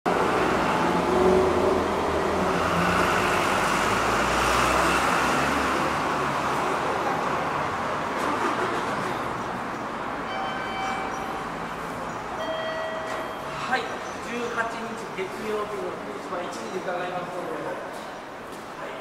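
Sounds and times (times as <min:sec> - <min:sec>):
passing vehicles rumbling: 0:00.1 - 0:18.8.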